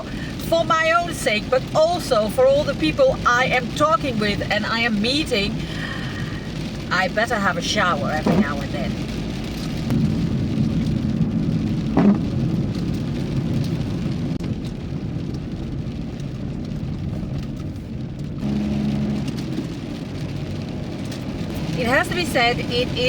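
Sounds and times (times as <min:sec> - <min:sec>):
car engine and tyre rumble: 0:00.0 - 0:23.0
rain on a car: 0:00.0 - 0:23.0.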